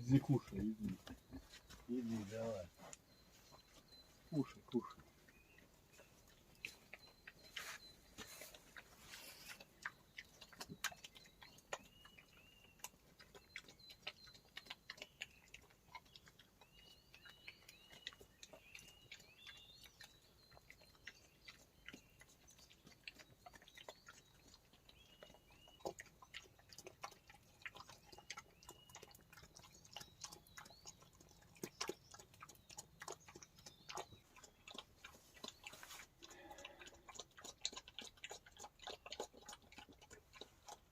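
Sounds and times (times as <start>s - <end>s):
boar chewing and crunching: 0.0s - 40.9s
small bird chirping: 0.0s - 40.9s.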